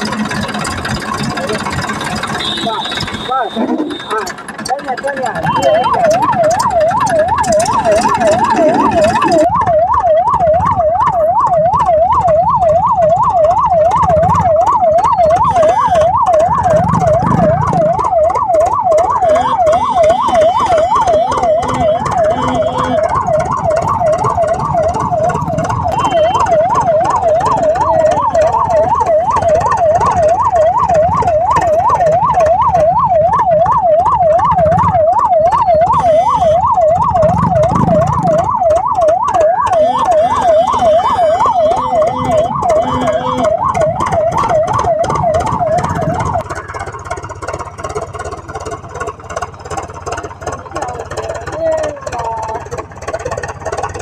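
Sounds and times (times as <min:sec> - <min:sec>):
electronic siren yelping: 0:00.0 - 0:54.0.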